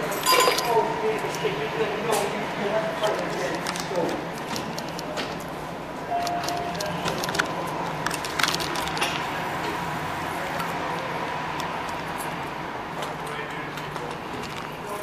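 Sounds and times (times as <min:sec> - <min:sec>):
subway station hum: 0:00.0 - 0:15.0.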